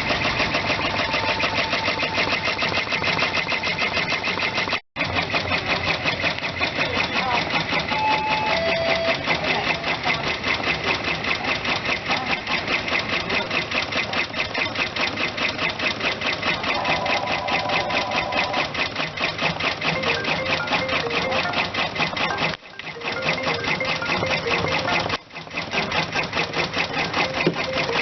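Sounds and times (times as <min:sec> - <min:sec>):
embroidery machine stitching: 0:00.0 - 0:28.0.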